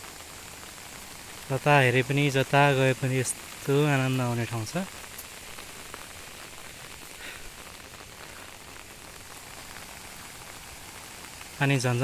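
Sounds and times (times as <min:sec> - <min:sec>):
rain patter: 0:00.0 - 0:12.0.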